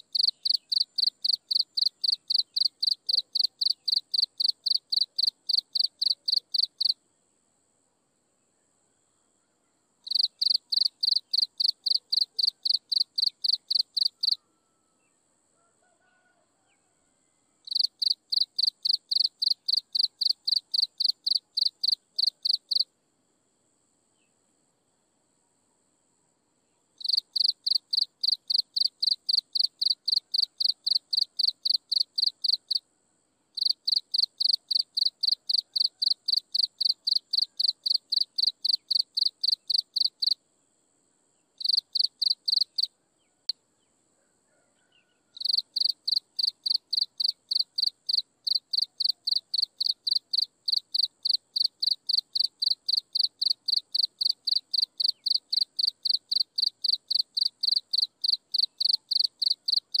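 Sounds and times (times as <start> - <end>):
insect chirping: 0.0 - 7.6, 9.8 - 15.6, 17.5 - 43.9, 44.8 - 60.0.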